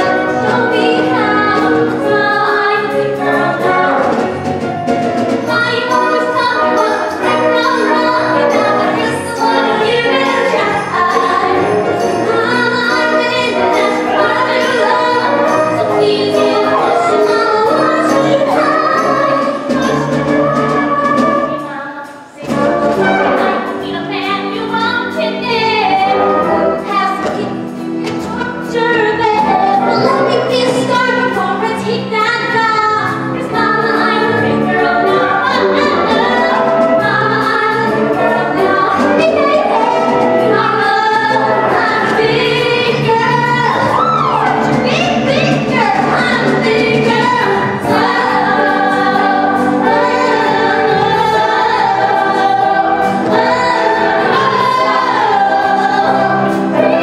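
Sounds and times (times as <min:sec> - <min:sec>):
instrumental accompaniment: 0:00.0 - 0:57.0
several voices singing show tune: 0:05.5 - 0:23.8, 0:28.3 - 0:57.0.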